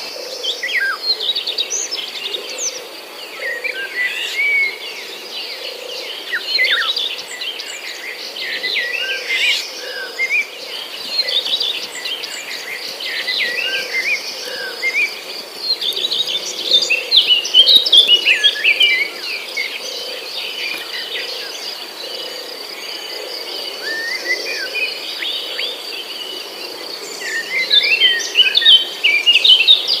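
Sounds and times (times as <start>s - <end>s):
birds chirping and singing: 0.0s - 30.0s.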